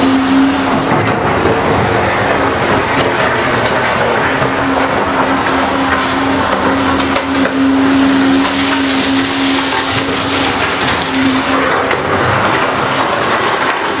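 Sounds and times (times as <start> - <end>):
excavator engine and hydraulics: 0.0 - 14.0
scattered knocks: 0.7 - 14.0.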